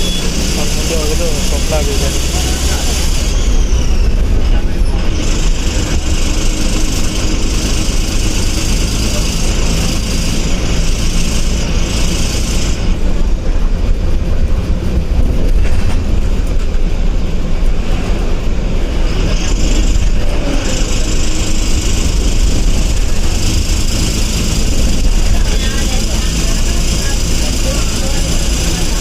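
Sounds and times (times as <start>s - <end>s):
bus diesel engine rumbling: 0.0s - 29.0s.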